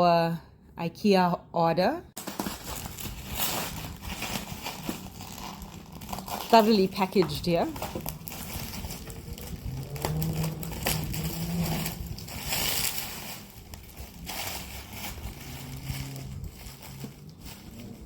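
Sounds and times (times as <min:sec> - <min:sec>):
packaging crinkling and rustling: 0:02.2 - 0:18.0.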